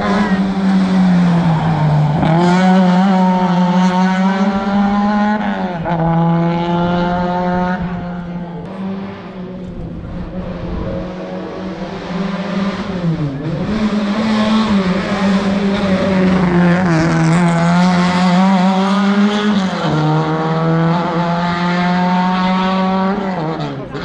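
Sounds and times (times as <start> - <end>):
rally car engine at high revs: 0.0 - 24.0.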